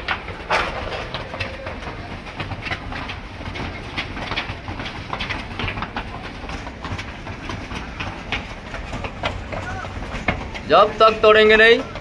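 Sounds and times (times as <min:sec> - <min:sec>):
footsteps running up concrete stairs: 0:00.0 - 0:12.0.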